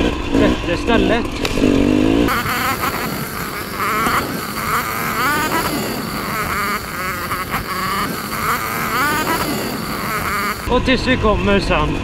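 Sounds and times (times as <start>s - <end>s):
dirt bike engine revving: 0.0s - 10.7s.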